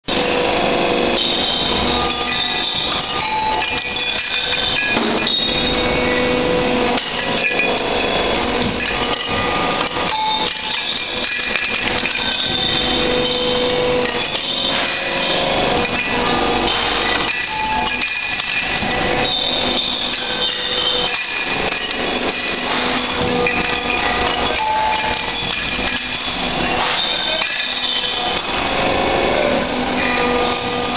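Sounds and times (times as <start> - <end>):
machinery din: 0.1 - 30.9
steel parts clanking and ringing: 1.1 - 30.9.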